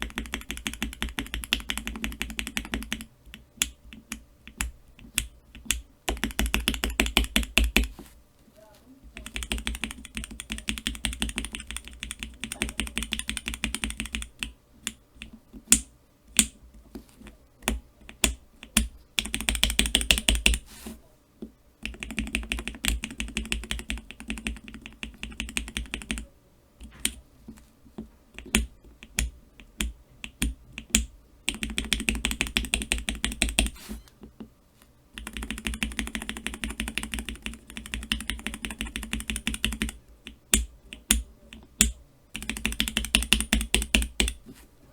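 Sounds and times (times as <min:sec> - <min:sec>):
mechanical keyboard keys clacking: 0:00.0 - 0:07.9, 0:09.2 - 0:16.6, 0:17.6 - 0:20.6, 0:21.8 - 0:27.2, 0:28.4 - 0:33.7, 0:35.2 - 0:44.4.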